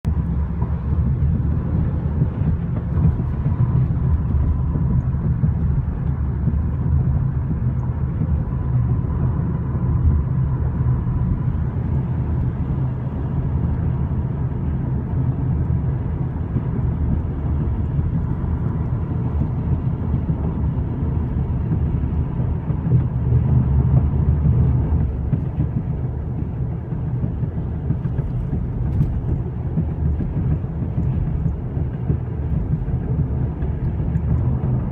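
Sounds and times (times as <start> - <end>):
tyres rumbling on road: 0.0 - 34.9.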